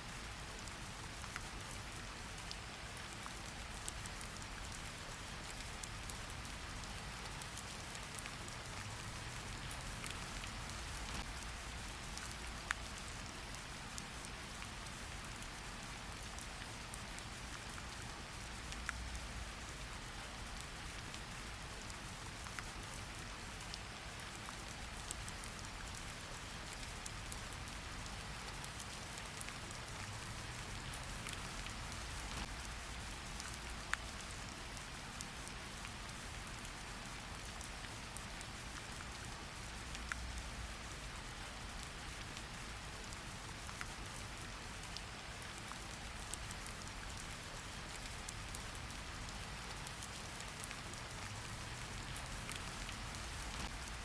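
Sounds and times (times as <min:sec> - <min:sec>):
rain hiss: 0:00.0 - 0:54.0
raindrops ticking on surface: 0:00.0 - 0:54.0.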